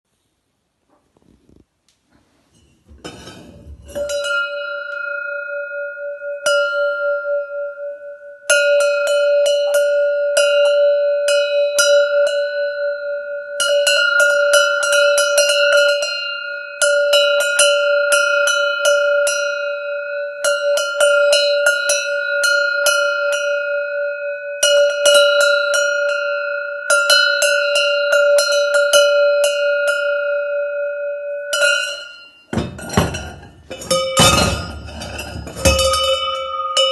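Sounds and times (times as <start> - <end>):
metal bell ringing: 2.9 - 36.9.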